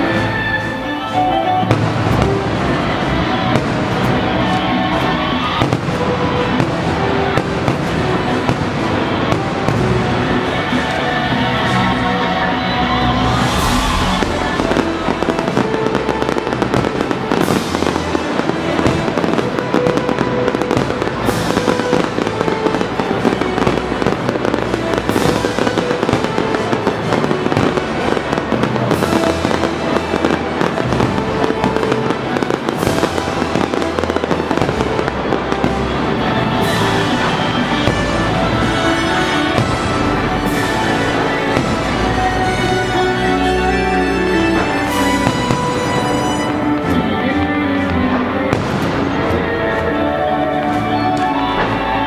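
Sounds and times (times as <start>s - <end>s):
fireworks bangs and crackling: 0.0s - 52.0s
music playing: 0.0s - 52.0s.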